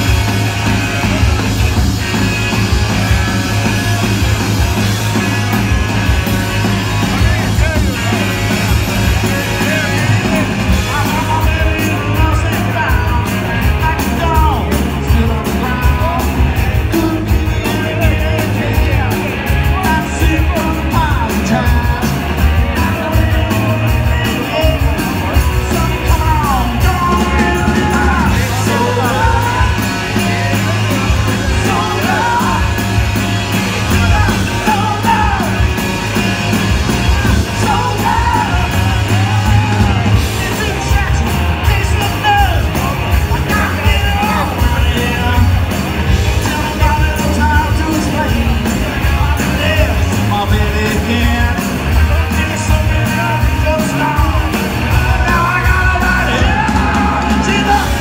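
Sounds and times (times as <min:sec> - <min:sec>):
bass guitar: 0:00.0 - 0:58.0
drum kit: 0:00.0 - 0:58.0
electric guitar: 0:00.0 - 0:58.0
person singing: 0:06.9 - 0:58.0.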